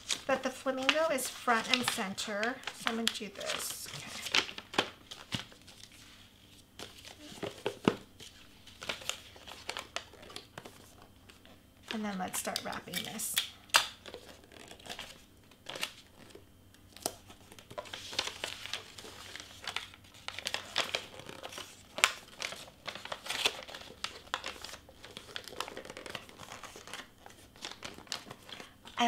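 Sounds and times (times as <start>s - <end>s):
wrapping paper crinkling: 0.0s - 13.2s, 13.8s - 29.0s.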